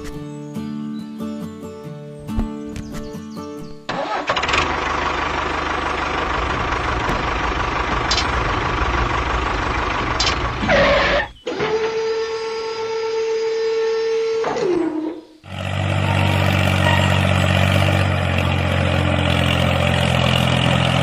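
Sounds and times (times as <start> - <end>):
small tractor motor running: 3.9 - 21.0.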